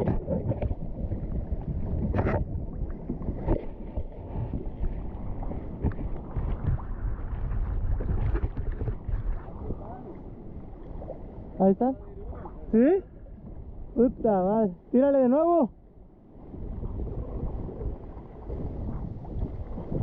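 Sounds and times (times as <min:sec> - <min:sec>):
water sloshing around kayak hull: 0:00.0 - 0:14.2, 0:15.8 - 0:20.0
wind buffeting microphone: 0:00.0 - 0:14.3, 0:16.3 - 0:20.0.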